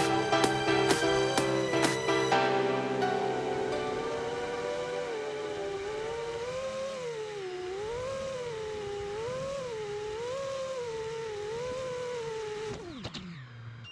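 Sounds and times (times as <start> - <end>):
drone motors whining: 0.0 - 13.9.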